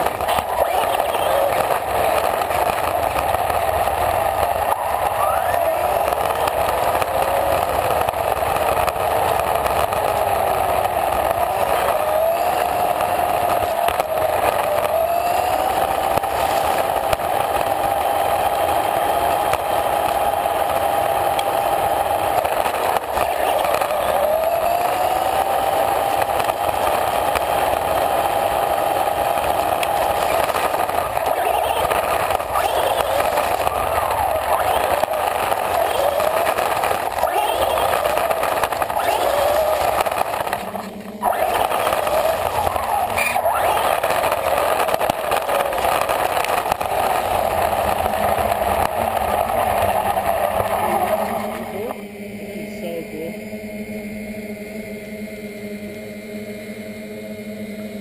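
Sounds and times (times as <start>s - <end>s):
rc car motor whining: 0.0s - 52.1s
tyre noise on rough asphalt: 1.2s - 51.8s.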